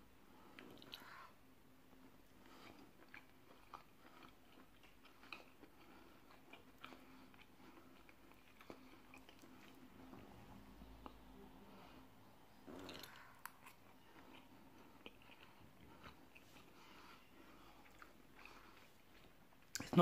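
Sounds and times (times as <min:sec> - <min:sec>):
faint low hum: 0:00.0 - 0:20.0
faint chewing: 0:00.3 - 0:20.0.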